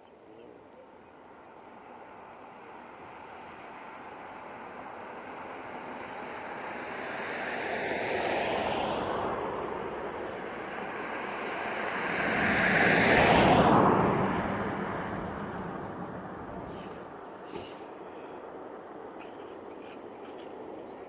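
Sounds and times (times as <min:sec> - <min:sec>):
aircraft flying overhead: 0:01.5 - 0:21.0.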